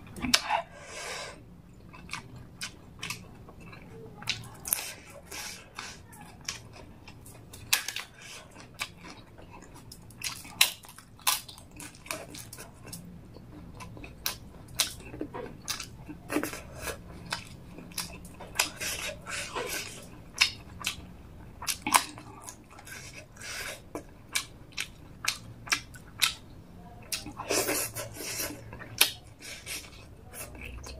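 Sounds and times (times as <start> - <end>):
chewing food: 1.6 - 30.9.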